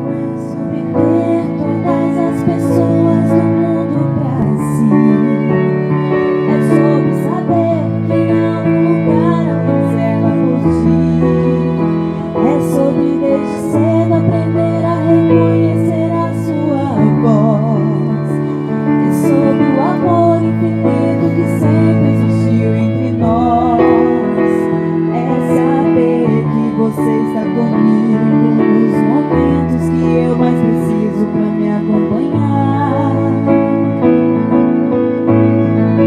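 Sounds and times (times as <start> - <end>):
woman singing into a microphone: 0.0 - 34.9
keyboard piano: 0.0 - 36.0
violins: 0.0 - 36.0.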